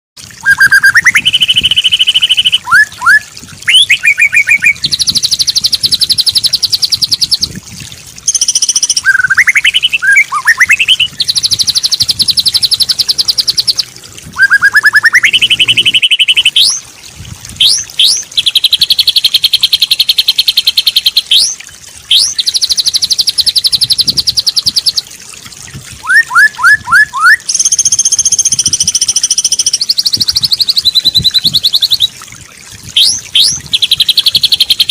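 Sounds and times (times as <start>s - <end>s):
bird song trills and whistles: 0.4s - 7.5s, 8.3s - 16.8s, 17.6s - 25.1s, 26.0s - 32.2s, 32.9s - 34.9s.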